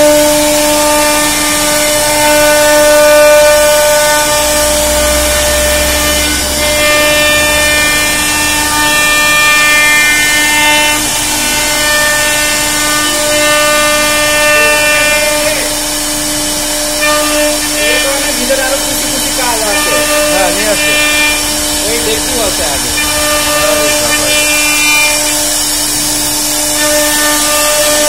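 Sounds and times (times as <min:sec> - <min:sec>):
hiss of bit cutting wood: 0:00.0 - 0:28.0
router spindle whine: 0:00.0 - 0:28.0.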